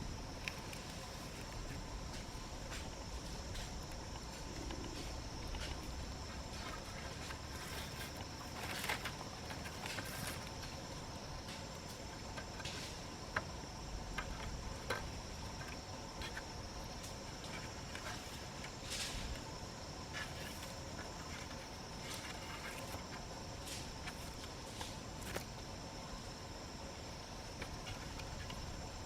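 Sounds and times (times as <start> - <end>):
insect chirring: 0.0 - 29.0.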